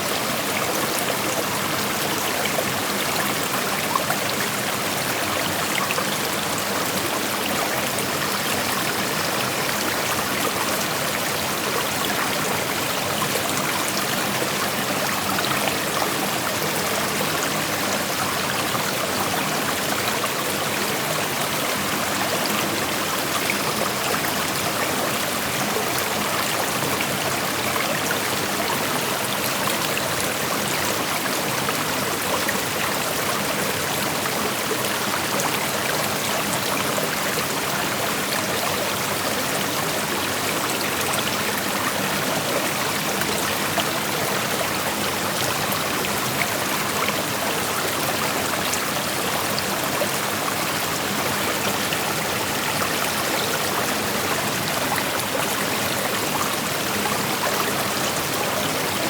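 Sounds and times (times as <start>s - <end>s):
creek water flowing over rocks: 0.0s - 59.0s.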